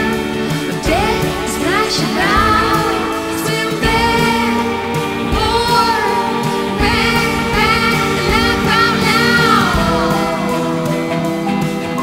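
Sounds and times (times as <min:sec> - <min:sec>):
held music chords: 0:00.0 - 0:12.0
person singing: 0:00.0 - 0:12.0.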